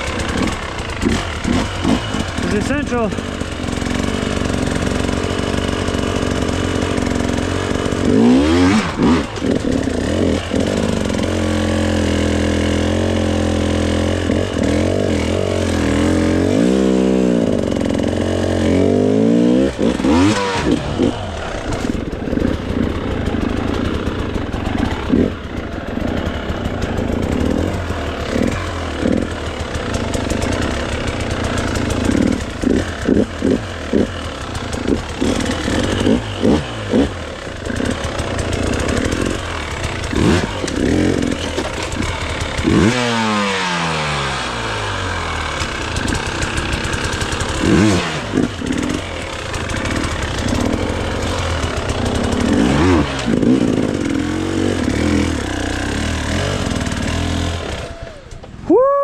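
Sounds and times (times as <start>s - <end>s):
dirt bike engine revving: 0.0s - 58.7s.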